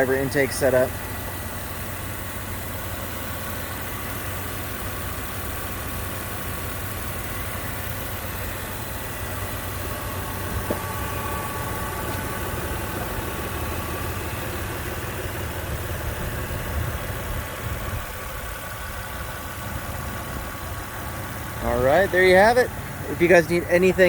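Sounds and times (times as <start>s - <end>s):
car engine idling: 0.0s - 24.0s
faint steady whine: 0.0s - 24.0s.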